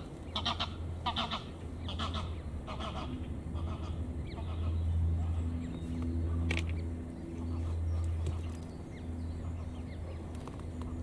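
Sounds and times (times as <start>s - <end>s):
bird calling: 0.0s - 11.0s
steady low hum: 0.0s - 11.0s.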